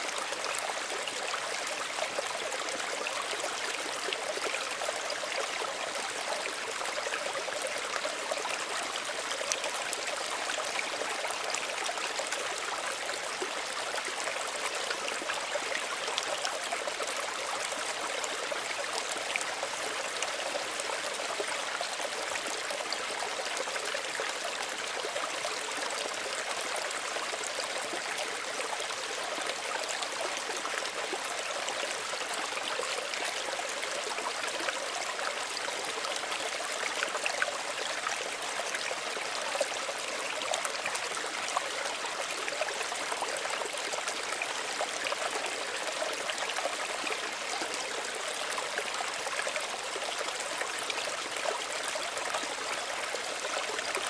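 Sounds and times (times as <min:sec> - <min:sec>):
small stream babbling over stones: 0:00.0 - 0:54.0.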